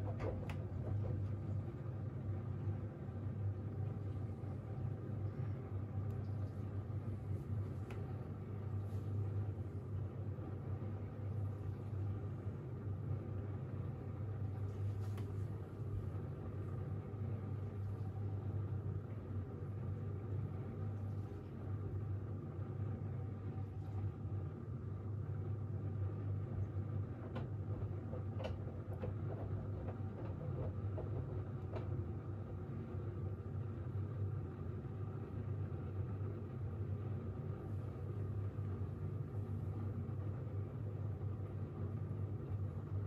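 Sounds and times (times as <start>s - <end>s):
washing machine humming: 0.0s - 43.0s.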